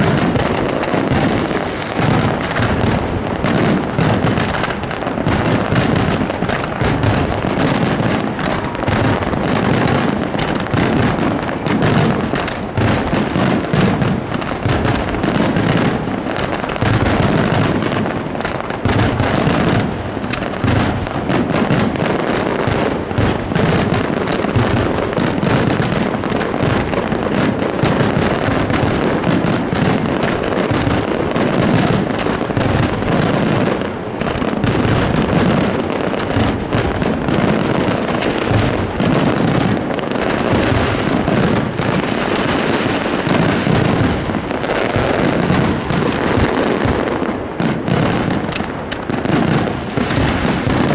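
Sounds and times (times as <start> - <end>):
fireworks booming and crackling: 0.0 - 50.9.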